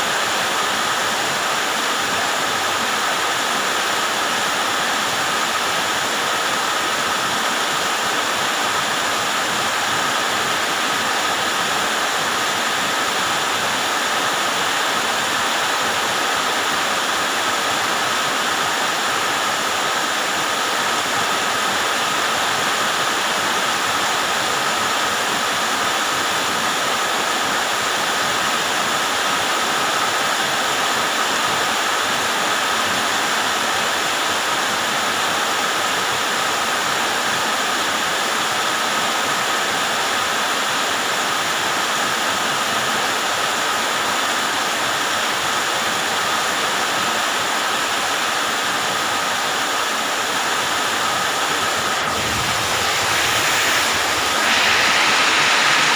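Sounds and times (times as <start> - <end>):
heavy rain pouring: 0.0 - 42.4, 43.0 - 55.9.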